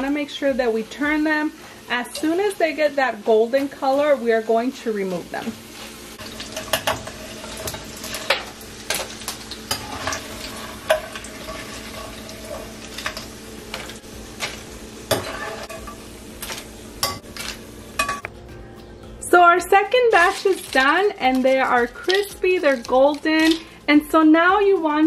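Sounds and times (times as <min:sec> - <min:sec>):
tortilla sizzling in oil: 0:00.0 - 0:18.2, 0:19.8 - 0:23.8.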